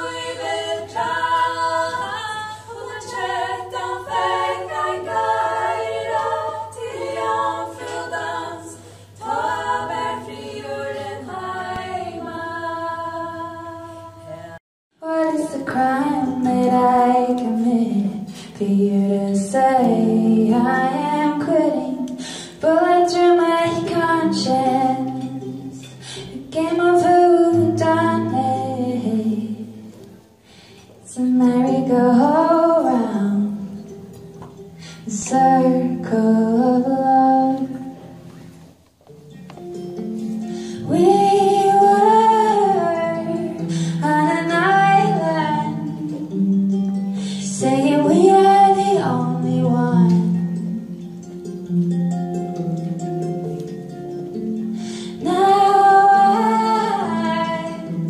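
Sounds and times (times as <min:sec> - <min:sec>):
woman singing: 0:00.0 - 0:30.0, 0:31.0 - 0:34.0, 0:34.9 - 0:38.0, 0:40.8 - 0:46.8, 0:47.4 - 0:50.8, 0:55.1 - 0:58.0
women singing a cappella in harmony: 0:00.0 - 0:38.5, 0:40.3 - 0:51.1, 0:54.8 - 0:58.0
acoustic guitars: 0:00.0 - 0:58.0.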